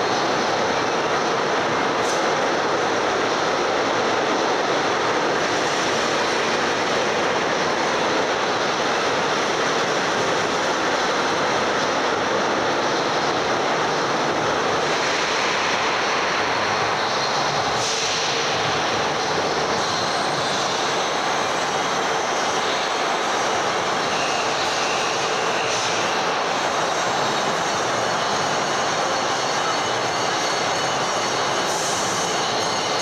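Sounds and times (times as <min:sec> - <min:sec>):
indoor amusement park din: 0:00.0 - 0:33.0.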